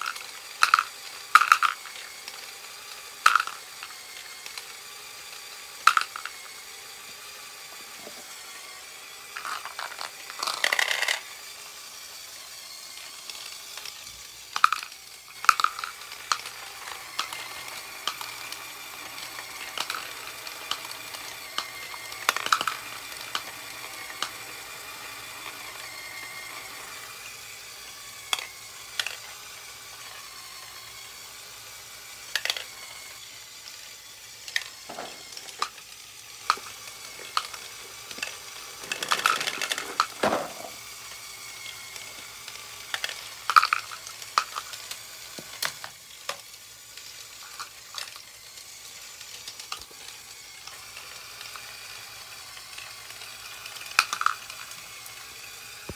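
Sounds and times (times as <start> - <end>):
plastic balls clicking and clattering: 0.0 - 6.6, 7.7 - 11.5, 13.0 - 27.2, 27.8 - 30.9, 31.8 - 55.9.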